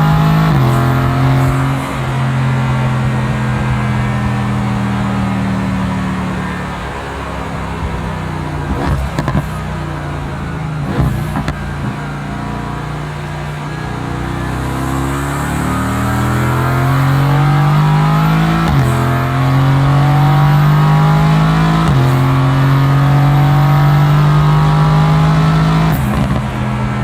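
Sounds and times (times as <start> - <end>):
sports car accelerating hard: 0.0 - 27.0.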